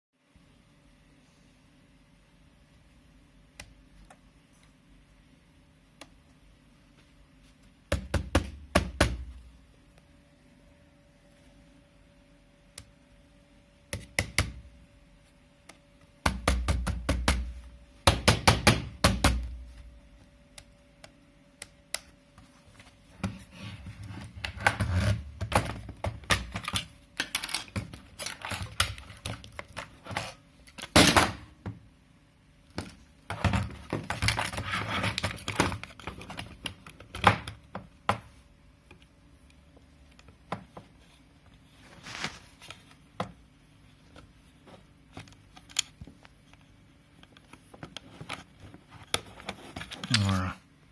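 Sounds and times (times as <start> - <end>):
faint steady hum: 0.2 - 50.9.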